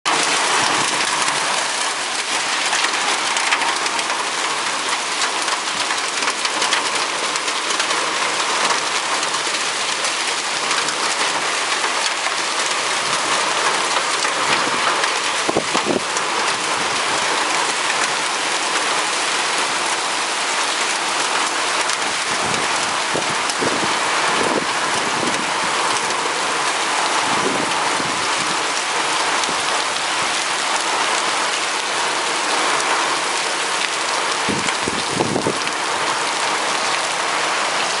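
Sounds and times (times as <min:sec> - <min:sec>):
heavy rain: 0:00.0 - 0:38.0
hail hits: 0:00.1 - 0:38.0.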